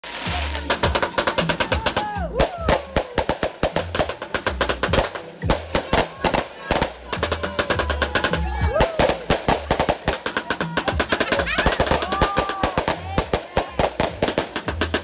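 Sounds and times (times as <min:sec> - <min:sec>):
fast driving drum beat: 0:00.3 - 0:15.0.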